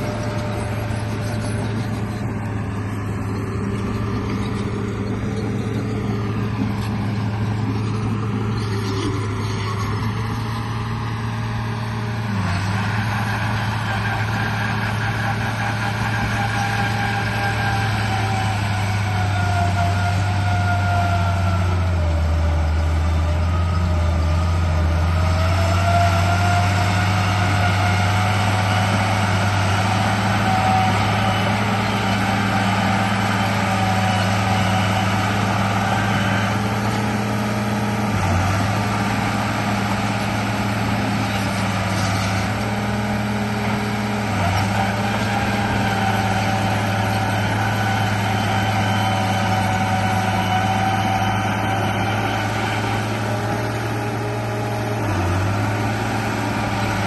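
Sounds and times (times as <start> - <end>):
toy bulldozer engine drone: 0.0 - 57.0.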